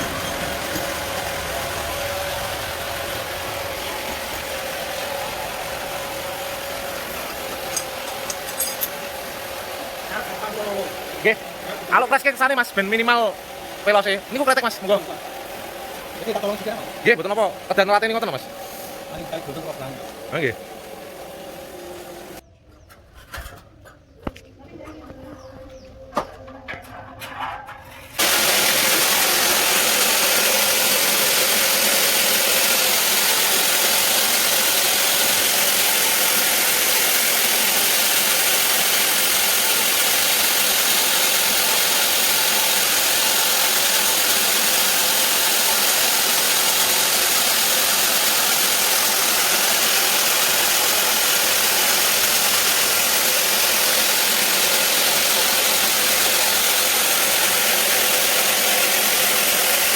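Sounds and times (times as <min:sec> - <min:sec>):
bandsaw running: 0:00.0 - 0:22.4, 0:28.0 - 0:59.9.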